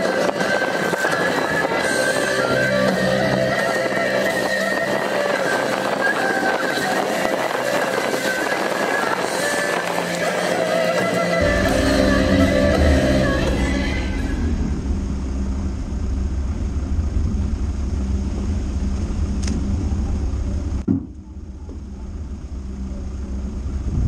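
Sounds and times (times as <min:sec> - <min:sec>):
constant hum: 0:00.0 - 0:24.0
engine and road rumble: 0:00.0 - 0:24.0.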